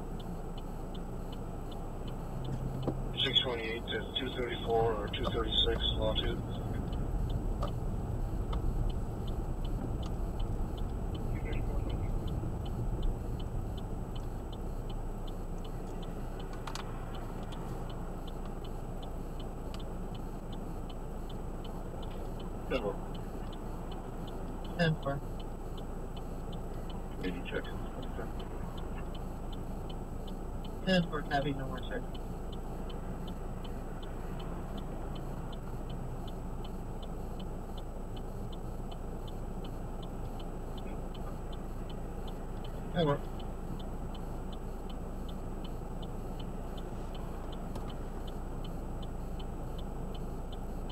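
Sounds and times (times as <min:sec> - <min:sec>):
car idling in cabin: 0:00.0 - 0:50.9
turn signal ticking: 0:00.0 - 0:50.9.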